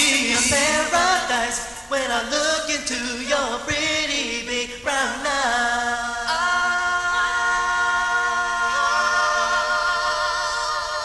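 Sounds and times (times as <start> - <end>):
vocal group holding harmony chord: 0.0 - 11.0.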